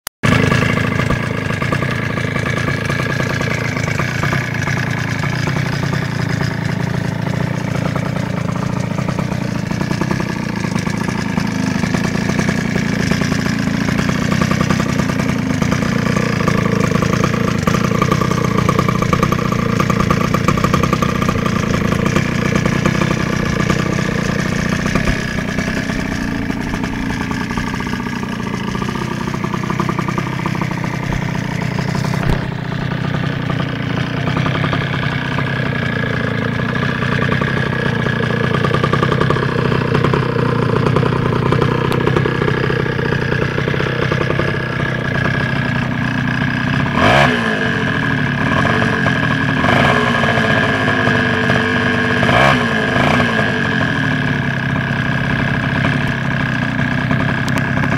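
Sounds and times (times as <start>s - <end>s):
small two-stroke engine idling: 0.2s - 57.9s.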